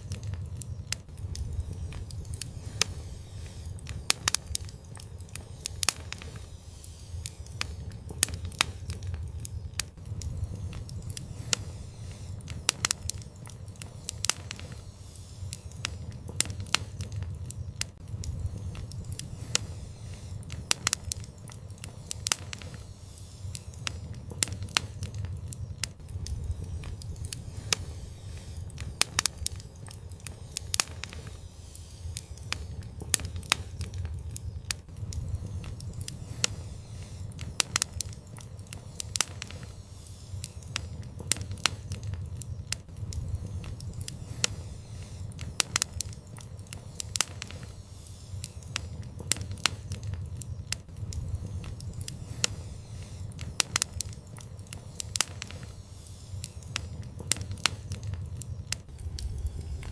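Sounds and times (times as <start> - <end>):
sharp pops and snaps: 0.0 - 59.9
wood fire crackling: 0.0 - 59.9.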